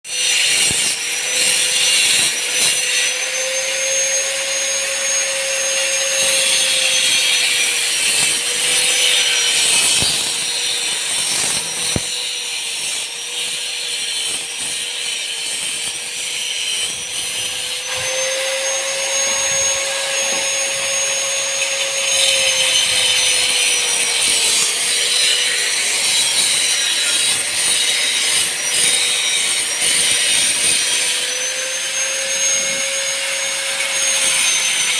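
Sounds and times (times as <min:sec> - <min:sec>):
power tool grinding metal: 0:00.1 - 0:34.9.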